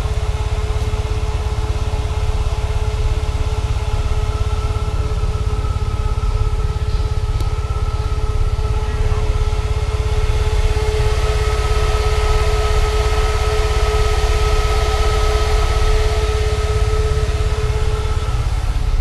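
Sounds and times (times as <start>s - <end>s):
car engine idling: 0.0s - 19.0s
steady high whine: 0.0s - 19.0s.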